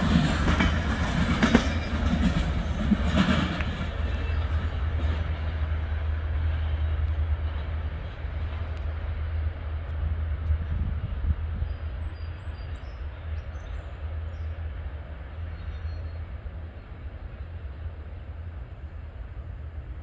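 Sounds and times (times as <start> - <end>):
freight train rumbling on rails: 0.0 - 20.0.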